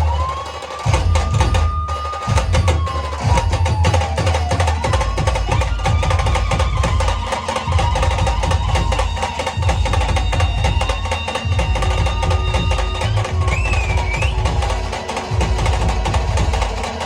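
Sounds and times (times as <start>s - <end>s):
heavy dhol beats: 0.0s - 17.0s
rapid tasha drum strokes: 0.0s - 17.0s.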